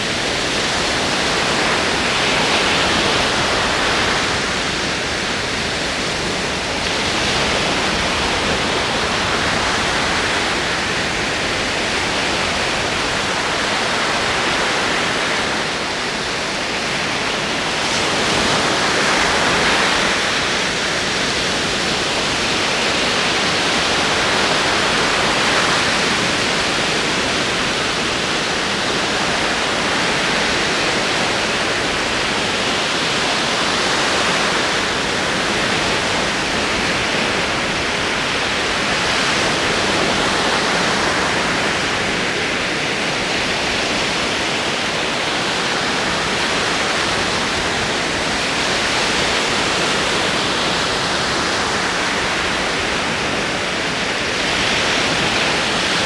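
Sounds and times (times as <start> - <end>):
ocean waves rolling in: 0.0 - 56.0.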